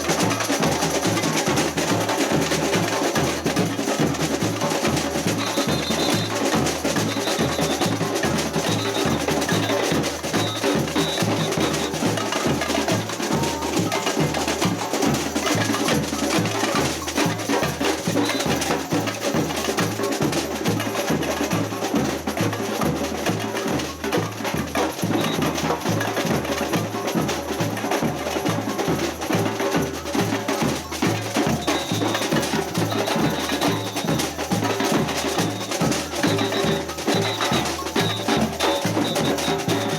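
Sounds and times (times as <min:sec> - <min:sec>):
hand percussion clicking and rattling: 0:00.0 - 0:27.8, 0:28.7 - 0:39.9.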